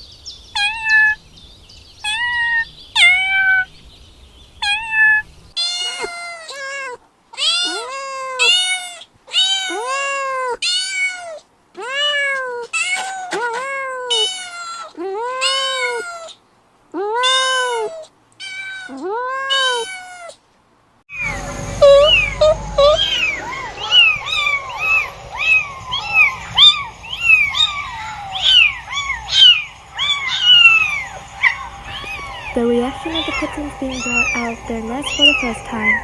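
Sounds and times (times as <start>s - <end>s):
kitten chirps: 0.6s - 1.2s, 2.0s - 3.7s, 4.6s - 16.4s, 17.0s - 20.4s, 21.1s - 36.0s
kitten meowing: 0.6s - 1.2s, 2.0s - 3.7s, 4.6s - 16.4s, 17.0s - 20.4s, 21.1s - 36.0s.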